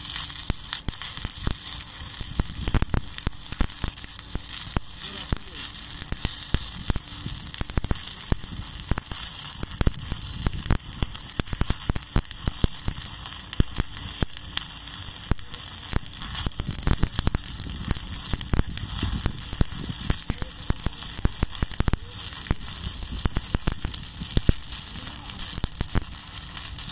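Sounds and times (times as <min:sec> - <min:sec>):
welding arc hissing and popping: 0:00.0 - 0:26.9.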